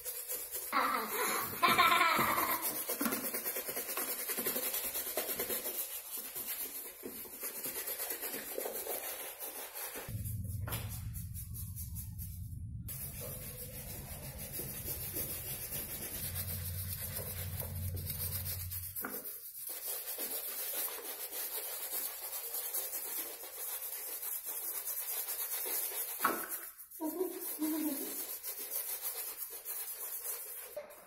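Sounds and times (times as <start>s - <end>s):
brushes scrubbing wet shoes: 0.0s - 10.2s, 12.9s - 31.0s.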